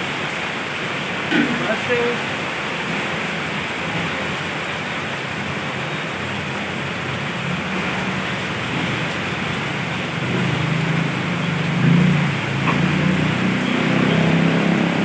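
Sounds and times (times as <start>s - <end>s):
heavy rain falling: 0.0s - 15.0s
vehicle engine hum: 0.0s - 15.0s.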